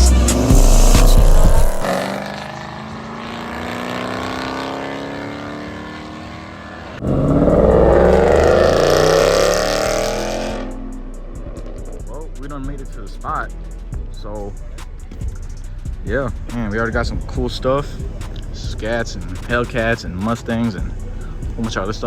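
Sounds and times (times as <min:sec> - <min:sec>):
car engines accelerating: 0:00.0 - 0:22.0.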